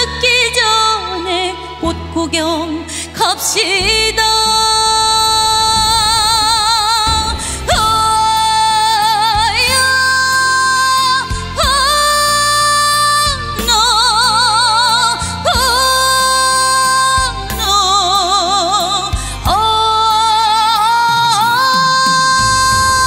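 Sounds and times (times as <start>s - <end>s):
backing track music: 0.0s - 23.0s
woman singing with vibrato: 0.0s - 23.0s.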